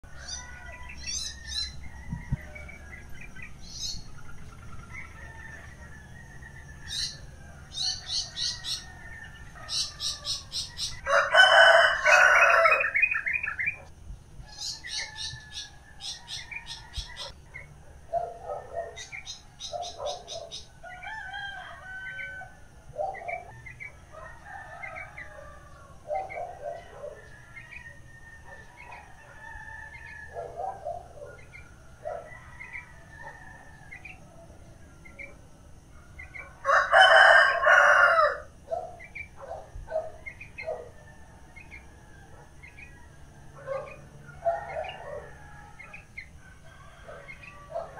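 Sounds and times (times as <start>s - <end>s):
small birds chirping: 0.0s - 21.3s, 21.9s - 36.6s, 38.6s - 46.5s, 47.1s - 47.9s
rooster crowing: 0.1s - 4.0s, 4.7s - 47.9s.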